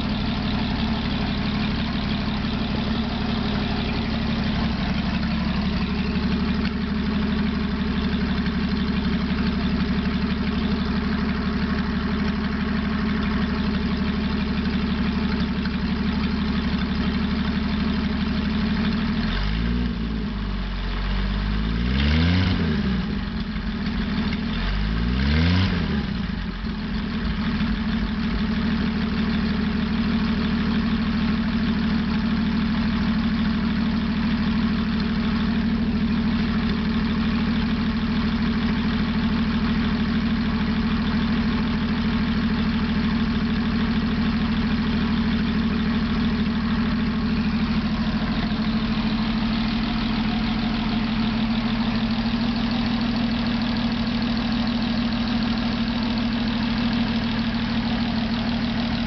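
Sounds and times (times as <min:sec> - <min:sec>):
engine revving and idling: 0:00.0 - 0:59.0.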